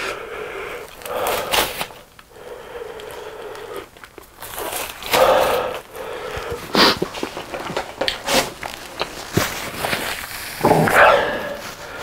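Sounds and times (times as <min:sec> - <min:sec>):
paper tissue rustling: 0:00.0 - 0:02.2, 0:03.0 - 0:12.0.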